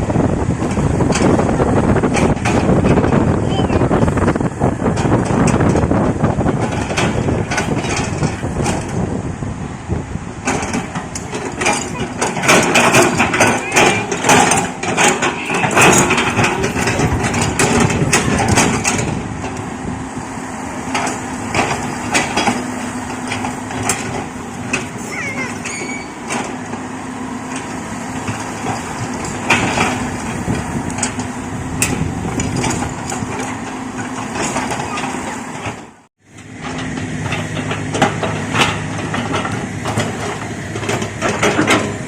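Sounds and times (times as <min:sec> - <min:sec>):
excavator engine working: 0:00.0 - 0:42.0.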